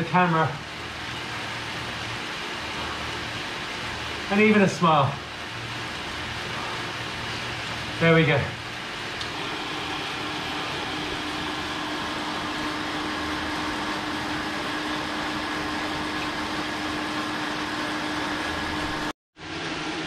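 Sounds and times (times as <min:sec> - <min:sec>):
bicycle rollers whirring: 0:00.4 - 0:19.1.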